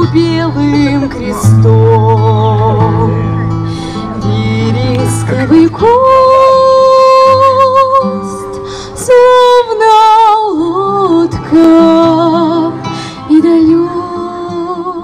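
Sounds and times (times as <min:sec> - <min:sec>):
woman singing: 0:00.0 - 0:03.2, 0:04.2 - 0:15.0
acoustic guitar: 0:00.0 - 0:15.0.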